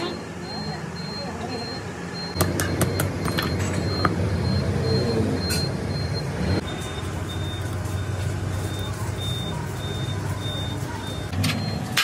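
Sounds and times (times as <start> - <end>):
short high-pitched beeps: 0.0 - 11.9
vehicle engine humming: 0.0 - 12.0.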